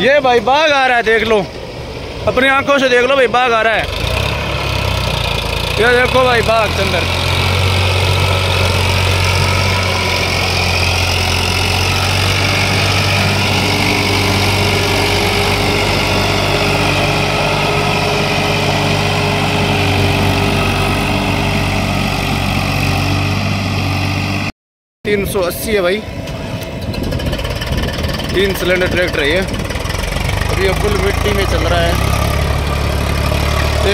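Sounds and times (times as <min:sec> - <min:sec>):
tractor diesel engine running: 0:00.0 - 0:24.5, 0:25.3 - 0:33.9.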